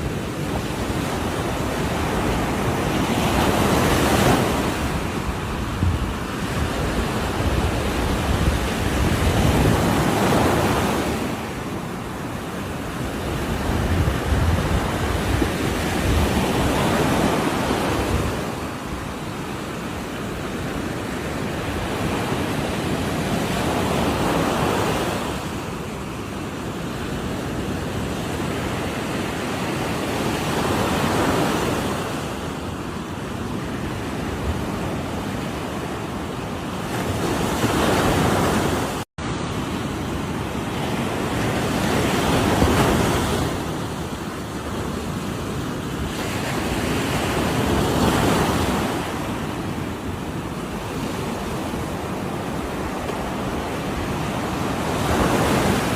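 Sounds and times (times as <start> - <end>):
waves breaking on shore: 0.0 - 55.9.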